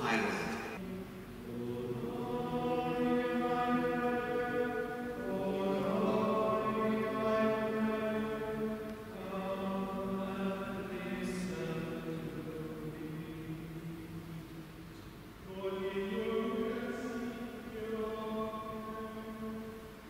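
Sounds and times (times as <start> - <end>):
choir singing sustained chords: 0.0 - 20.0.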